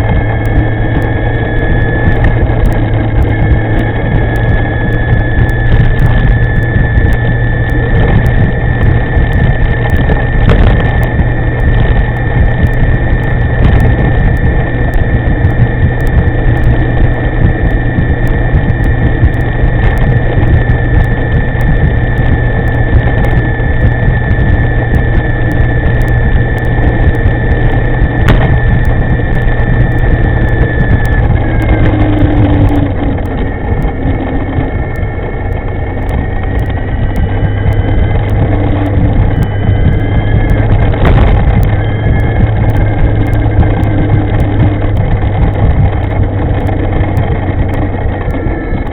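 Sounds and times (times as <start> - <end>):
electric scooter whine: 0.0 - 48.9
wavering lower tones: 0.0 - 48.9
wind rushing over microphone: 0.0 - 48.9.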